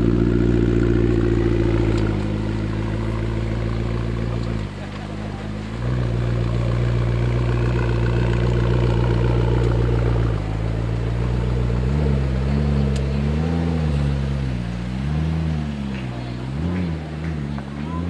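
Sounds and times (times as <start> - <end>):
car engine at low revs: 0.0 - 18.0
engine throttle blips: 0.0 - 18.0.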